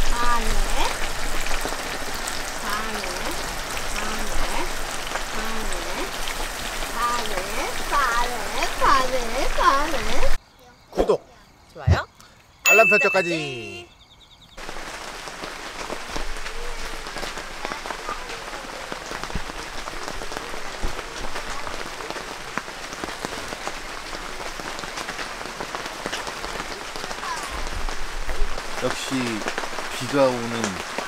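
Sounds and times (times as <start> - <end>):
rain on tent fabric: 0.0 - 10.4, 14.6 - 31.0
raindrop taps: 0.0 - 10.4, 14.6 - 31.0.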